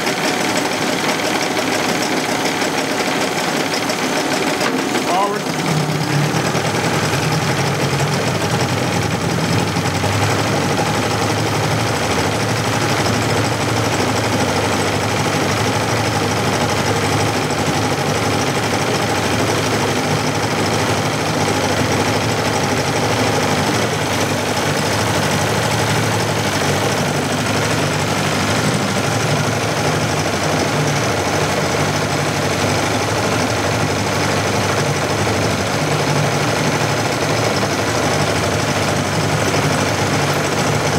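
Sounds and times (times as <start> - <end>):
outboard motor running: 0.0 - 40.9.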